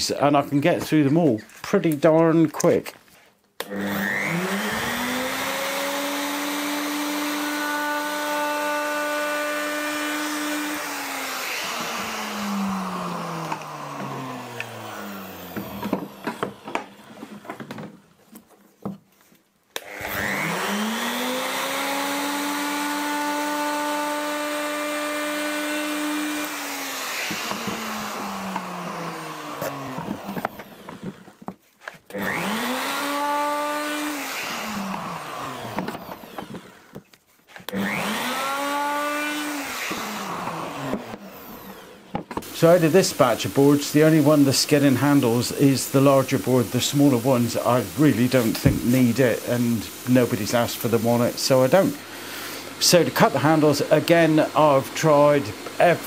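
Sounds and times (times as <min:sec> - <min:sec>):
router whining while cutting wood: 0:03.6 - 0:19.0, 0:19.7 - 0:56.0.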